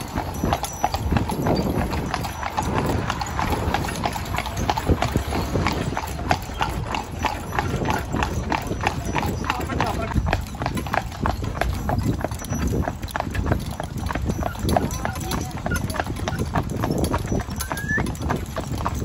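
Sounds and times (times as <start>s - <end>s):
horse hooves clip-clopping on tarmac: 0.0s - 19.0s.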